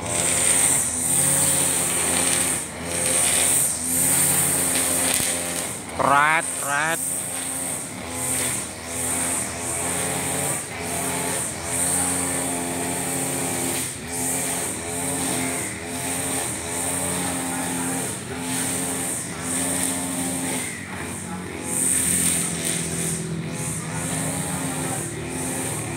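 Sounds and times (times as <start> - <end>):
brush cutter engine running: 0.0 - 25.9
trimmer line whirring through grass: 0.0 - 25.9.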